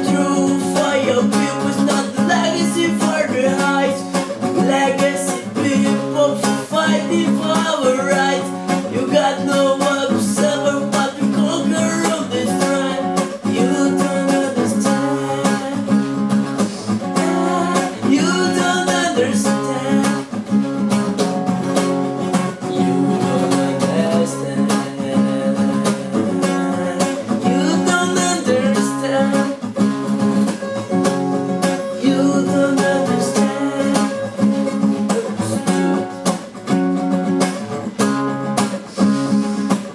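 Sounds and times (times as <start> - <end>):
acoustic guitar plucked and strummed: 0.0 - 39.9.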